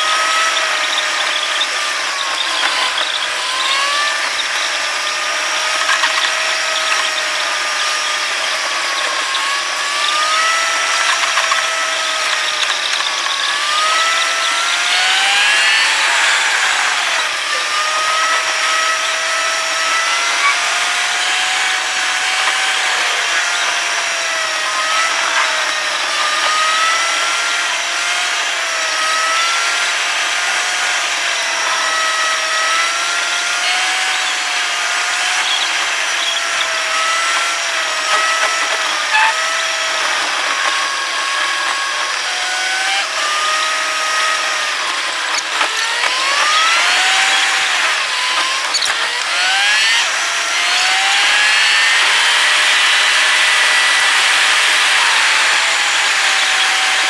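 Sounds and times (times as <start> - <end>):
high-pitched sped-up engine whine: 0.0 - 57.0.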